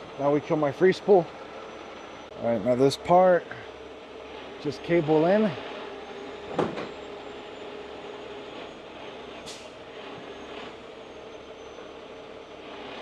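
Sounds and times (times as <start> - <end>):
truck engine and winch droning: 0.0 - 13.0.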